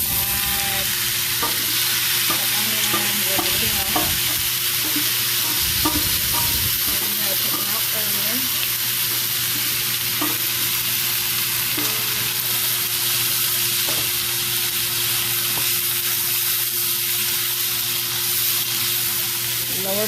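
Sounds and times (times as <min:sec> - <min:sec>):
food sizzling in frying pan: 0:00.0 - 0:20.0.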